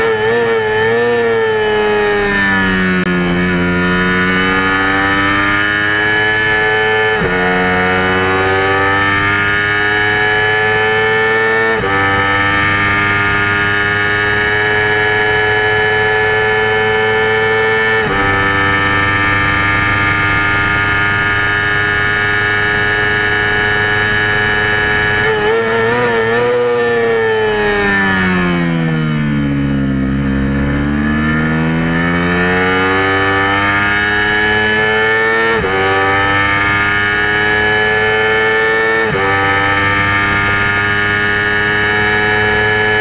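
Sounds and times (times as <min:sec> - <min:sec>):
motorcycle engine revving high: 0:00.0 - 0:43.0.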